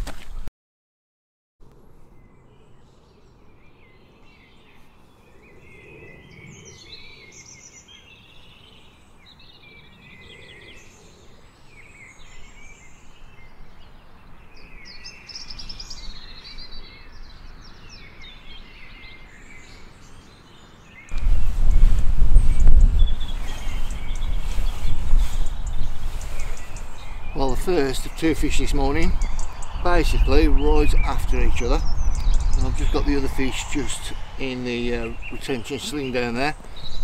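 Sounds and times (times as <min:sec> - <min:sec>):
outdoor background hiss: 0:01.6 - 0:37.0
small birds chirping: 0:01.6 - 0:37.0.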